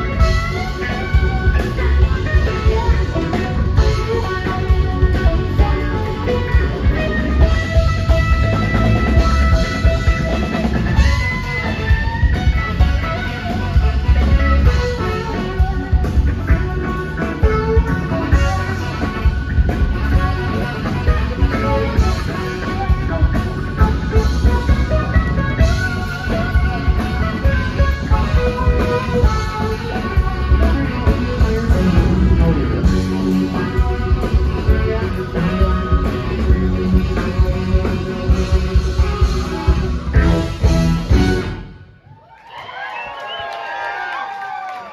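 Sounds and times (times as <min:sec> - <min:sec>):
steady drum beat: 0:00.0 - 0:41.7
bass: 0:00.0 - 0:44.6
electric guitar: 0:00.0 - 0:44.9.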